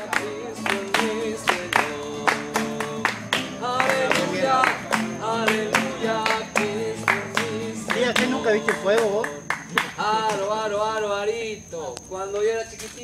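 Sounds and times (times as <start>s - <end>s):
strummed guitar: 0.0s - 10.8s
man singing: 0.0s - 12.8s.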